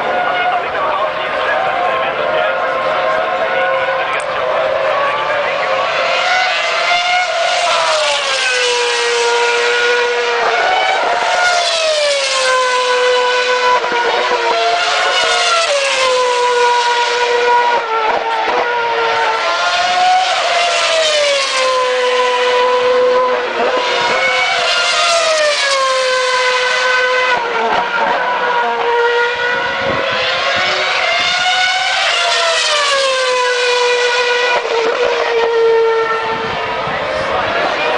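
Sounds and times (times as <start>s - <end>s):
racing cars passing at high revs: 0.0s - 37.9s.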